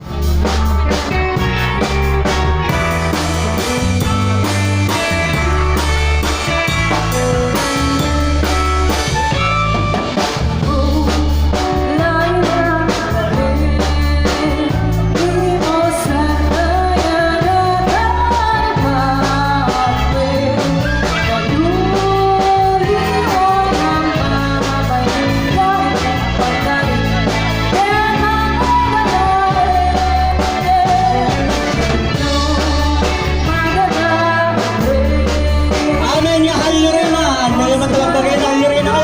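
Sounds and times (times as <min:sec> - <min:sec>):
amplified band playing: 0:00.0 - 0:39.0
person singing: 0:03.1 - 0:39.0.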